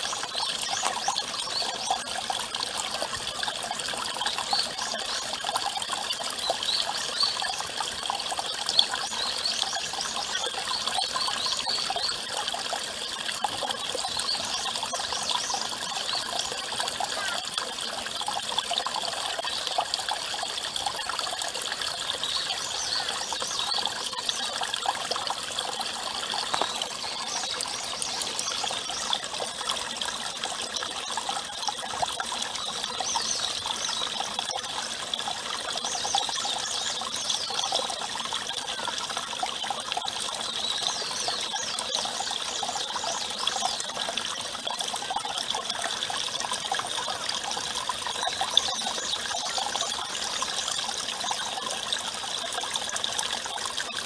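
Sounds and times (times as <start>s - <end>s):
water trickling into basin: 0.0s - 54.0s.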